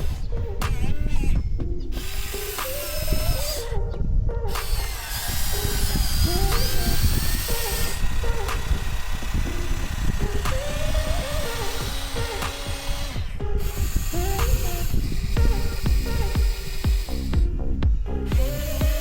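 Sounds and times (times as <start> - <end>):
electric pump motor whirring: 0.0 - 19.0.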